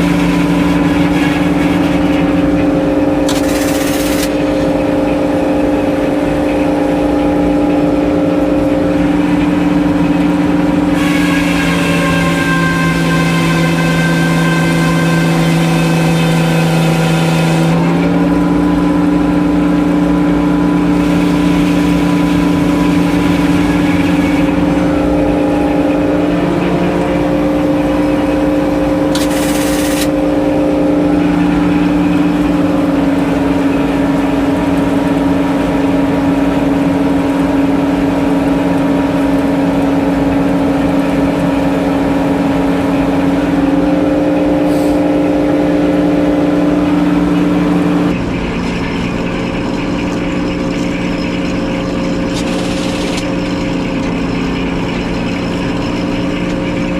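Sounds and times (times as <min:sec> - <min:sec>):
circular saw running: 0:00.0 - 0:56.9.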